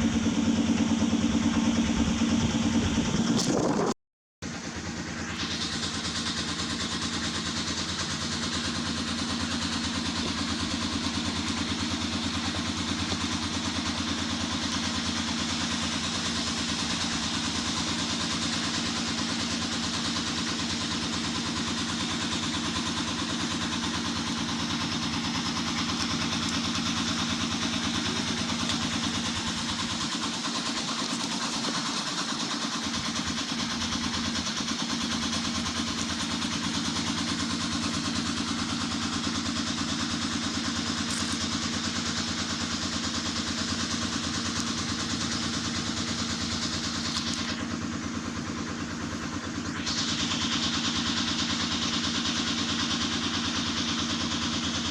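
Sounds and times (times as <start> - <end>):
engine humming at idle: 0.0 - 54.9.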